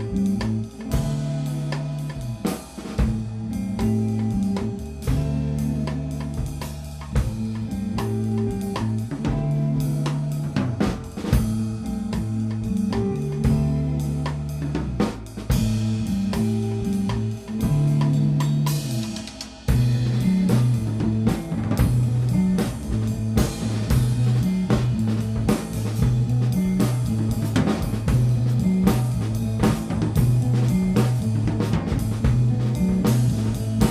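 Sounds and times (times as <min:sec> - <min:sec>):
bass guitar: 0:00.0 - 0:33.9
drum kit: 0:00.0 - 0:33.9
electric guitar: 0:00.0 - 0:33.9.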